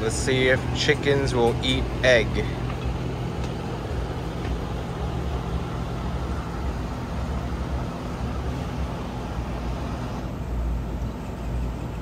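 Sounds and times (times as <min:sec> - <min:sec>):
motor running hum: 0:00.0 - 0:12.0.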